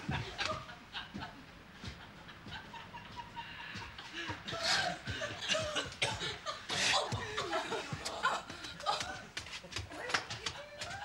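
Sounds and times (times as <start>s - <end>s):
people giggling and laughing: 0.0s - 11.0s.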